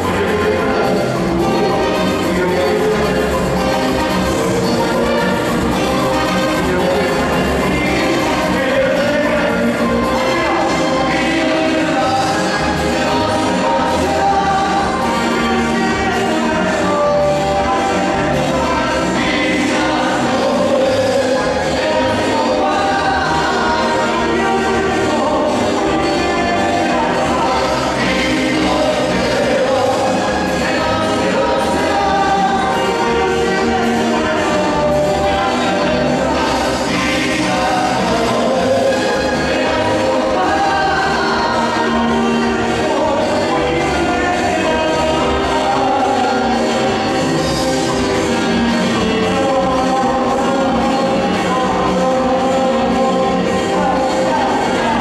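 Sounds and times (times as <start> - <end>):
electric guitar: 0.0 - 55.0
live dance band playing: 0.0 - 55.0
men singing: 0.0 - 55.0.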